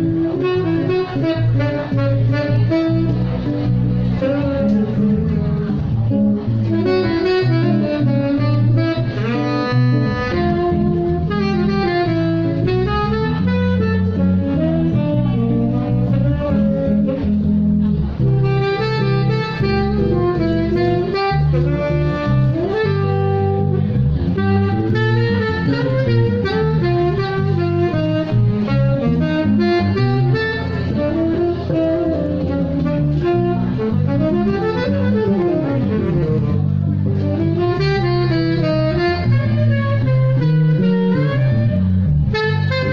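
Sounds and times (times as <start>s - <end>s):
plucked bass: 0.0s - 42.9s
saxophone melody: 0.0s - 42.9s.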